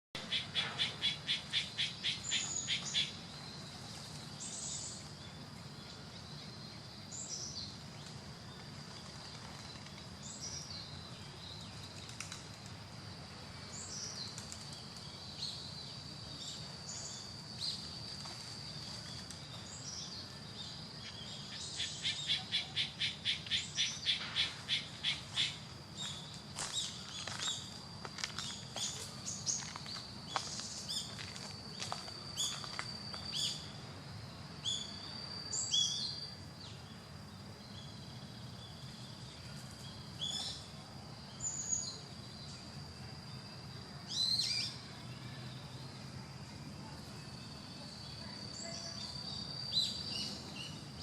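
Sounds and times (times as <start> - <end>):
steady high-pitched hum: 0.2 - 51.0.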